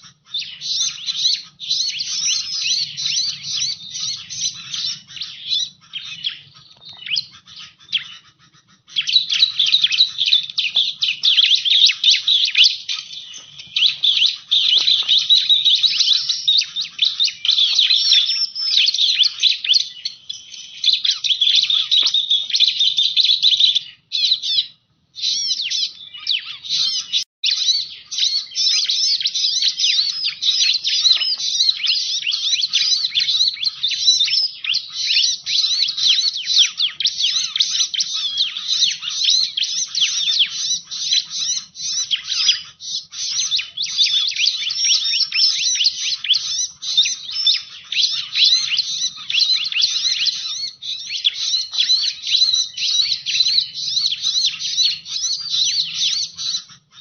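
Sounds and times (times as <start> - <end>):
bird chittering and trilling: 0.0 - 57.0.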